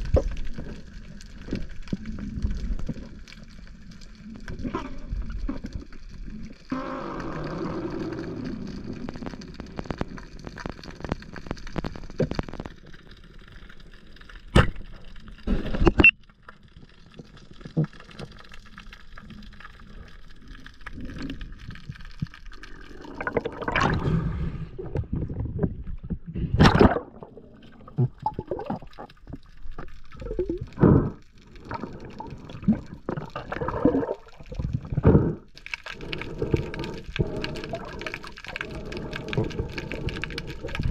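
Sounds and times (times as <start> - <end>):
water gurgling and sloshing: 0.0 - 40.9.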